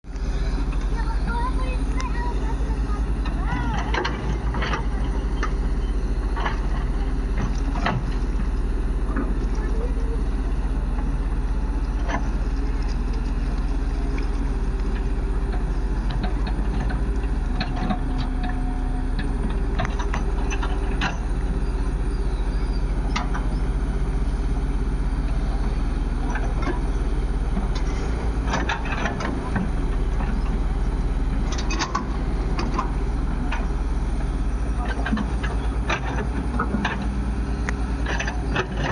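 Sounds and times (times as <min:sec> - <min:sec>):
heavy diesel machinery rumbling: 0:00.0 - 0:38.9.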